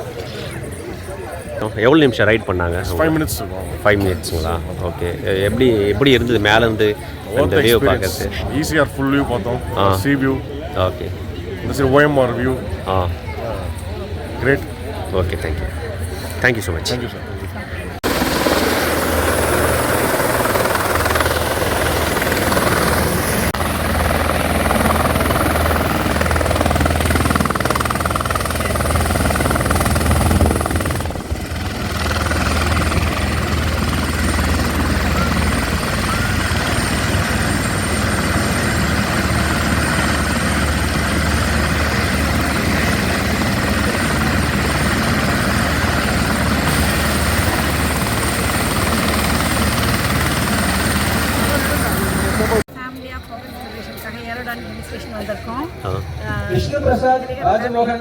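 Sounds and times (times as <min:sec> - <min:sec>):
helicopter engine and rotor noise: 0:00.0 - 0:58.0.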